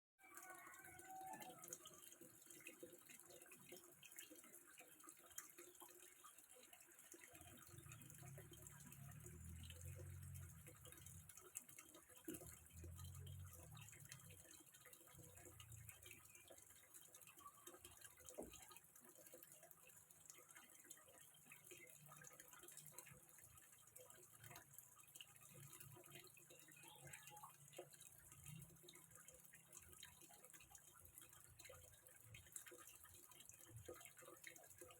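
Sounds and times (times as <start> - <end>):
water trickling into pond: 0.2 - 34.9.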